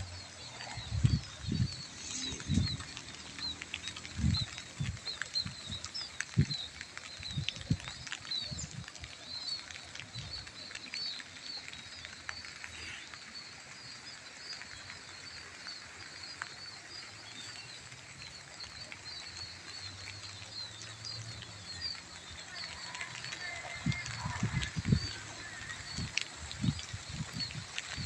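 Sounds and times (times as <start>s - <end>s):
light drizzle pattering: 0.0s - 28.0s.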